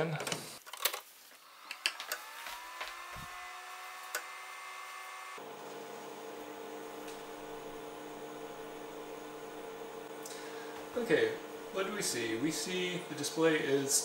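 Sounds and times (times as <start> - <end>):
machine hum rising in pitch: 2.2 - 13.7.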